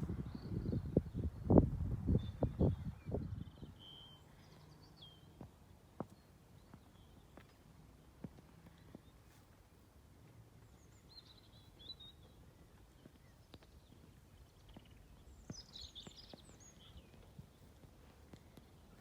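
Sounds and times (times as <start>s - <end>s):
faint birdsong twittering: 0.0s - 19.0s.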